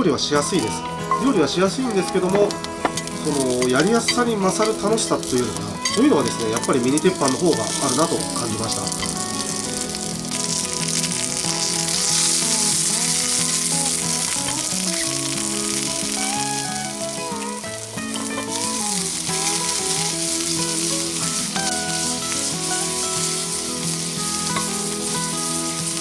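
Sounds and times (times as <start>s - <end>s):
food sizzling in a skillet: 0.0s - 26.0s
instrumental background music: 0.0s - 26.0s.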